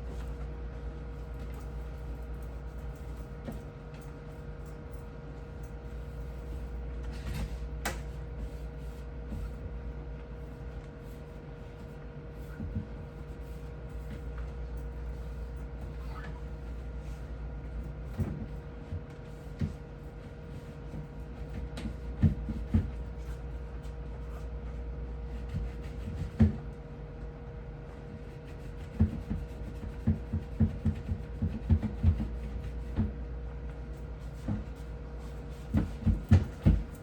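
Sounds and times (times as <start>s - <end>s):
steady electrical hum: 0.0s - 37.0s.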